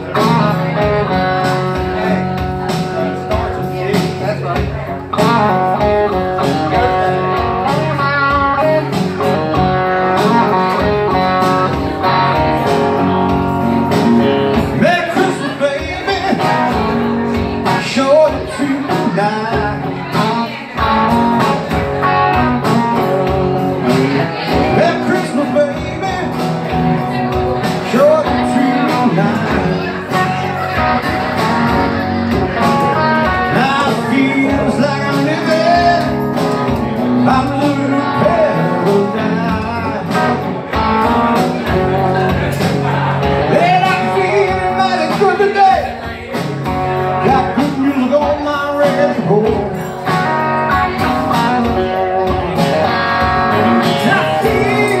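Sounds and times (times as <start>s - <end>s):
blues guitars playing: 0.0s - 55.0s
man singing: 0.0s - 55.0s.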